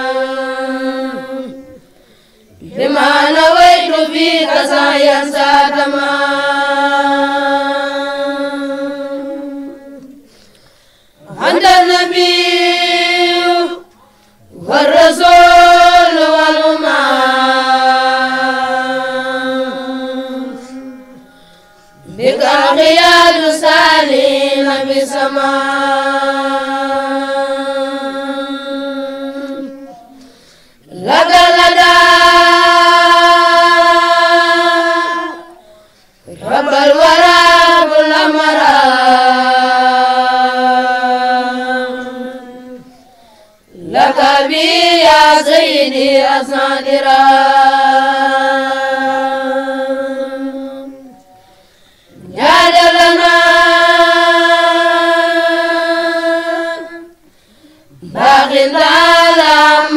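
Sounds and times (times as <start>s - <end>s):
person chanting religious recitation: 0.0s - 59.9s.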